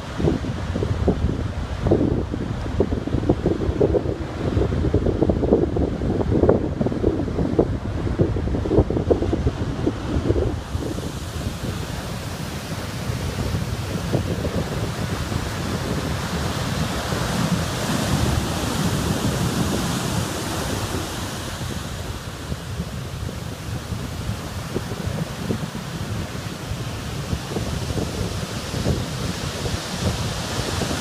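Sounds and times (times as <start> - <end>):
heavy surf breaking: 0.0 - 31.0
wind buffeting microphone: 0.0 - 31.0.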